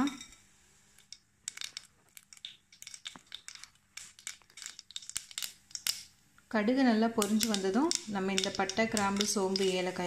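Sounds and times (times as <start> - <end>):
seeds popping in hot oil: 0.0 - 10.0.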